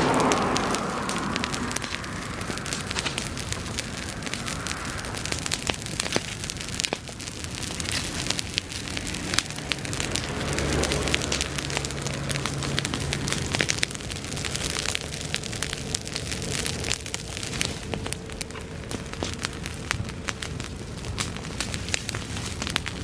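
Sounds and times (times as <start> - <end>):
low rumble: 0.0 - 22.9
bonfire crackling and popping: 0.0 - 23.0.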